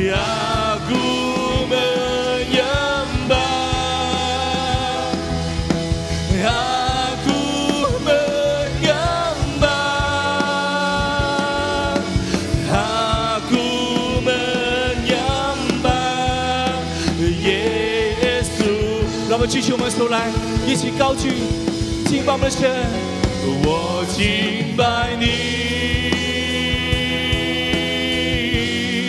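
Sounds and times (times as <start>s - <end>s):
live worship band: 0.0s - 29.0s
singers holding long notes: 0.0s - 29.0s.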